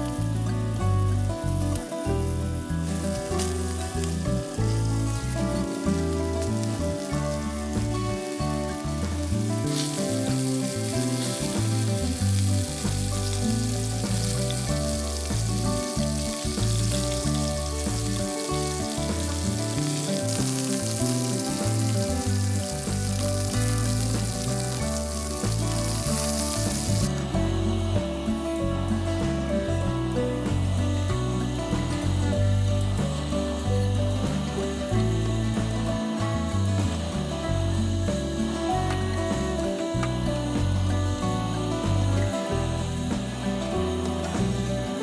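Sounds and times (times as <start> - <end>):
background music with bass: 0.0 - 45.0
sausages sizzling in a skillet: 0.0 - 45.0.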